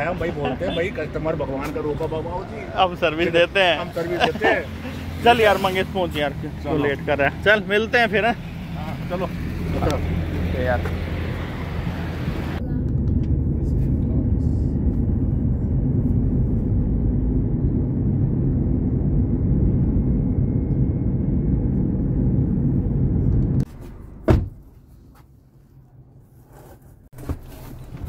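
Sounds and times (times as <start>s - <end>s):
car driving heard from inside: 0.9s - 24.8s.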